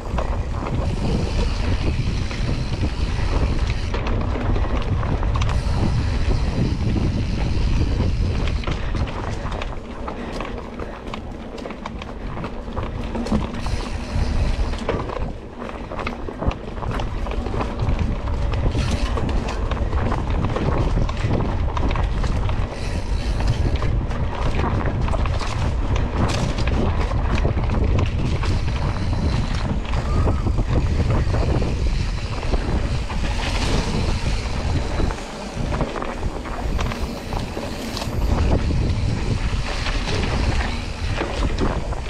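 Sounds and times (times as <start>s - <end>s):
bike clicks and knocks: 0.0s - 42.0s
mountain bike rumbling on dirt trail: 0.0s - 42.0s
wind buffeting microphone: 0.0s - 42.0s.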